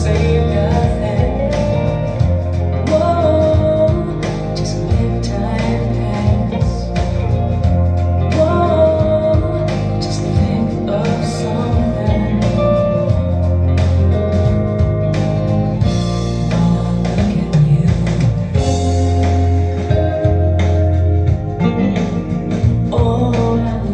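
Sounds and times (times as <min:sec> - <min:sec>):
song with singing and guitar: 0:00.0 - 0:23.9.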